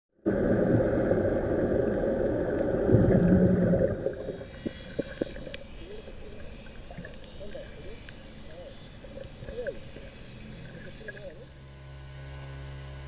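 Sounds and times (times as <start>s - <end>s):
underwater rumble and bubbling: 0.3s - 11.6s.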